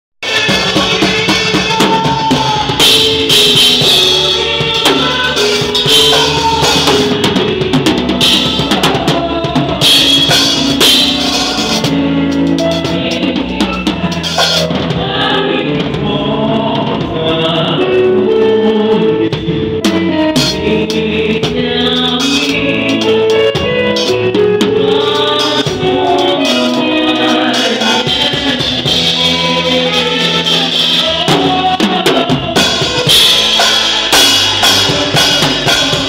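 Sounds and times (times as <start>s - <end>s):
drum kit groove: 0.2s - 36.0s
pitched band instruments: 0.2s - 36.0s.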